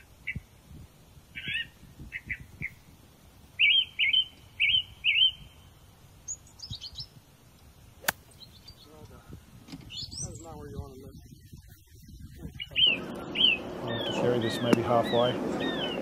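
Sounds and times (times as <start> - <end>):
birds chirping and twittering: 1.3 - 7.2, 7.8 - 16.0.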